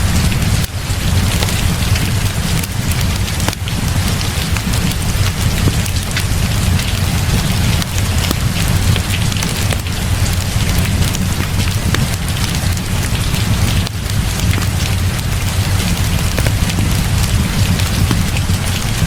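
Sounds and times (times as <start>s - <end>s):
heavy rain: 0.0s - 19.0s
wood fire crackling: 0.0s - 19.0s.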